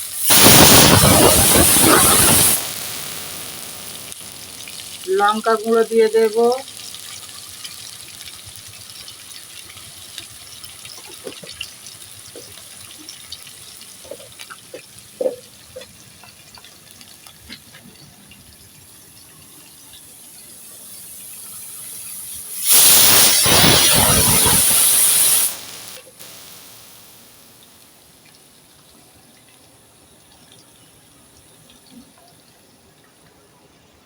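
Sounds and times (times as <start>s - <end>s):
spices sizzling in oil: 0.0s - 32.4s
water hissing in hot pan: 0.0s - 32.6s.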